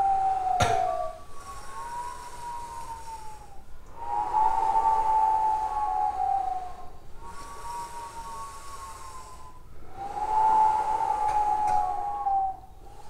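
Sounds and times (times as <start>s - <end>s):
whistle-like overtone singing: 0.0s - 12.7s
breathy hiss: 0.0s - 13.0s.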